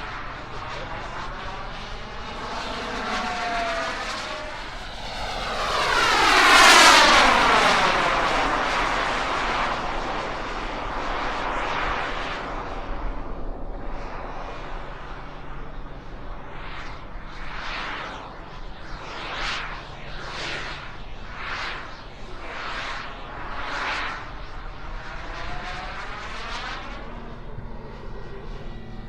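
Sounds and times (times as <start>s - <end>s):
model turbine jet flying past: 0.0s - 29.0s.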